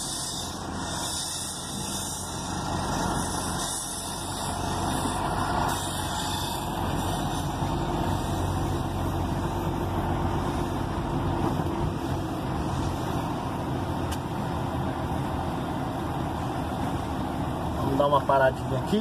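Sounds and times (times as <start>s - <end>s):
diesel engine droning in cab: 0.0s - 19.0s.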